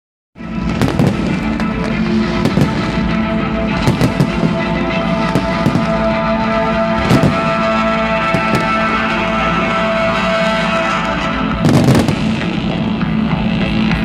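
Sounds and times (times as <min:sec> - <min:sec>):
loud music: 0:00.4 - 0:14.0
fireworks bangs: 0:00.6 - 0:12.7.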